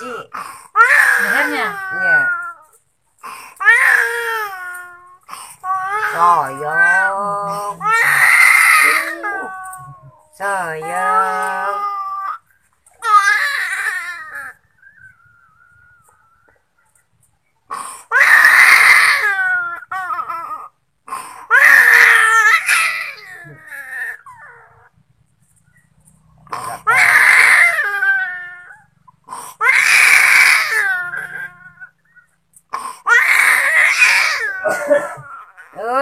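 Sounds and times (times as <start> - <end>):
infant crying: 0.0 - 16.6, 17.7 - 25.0, 26.5 - 36.0.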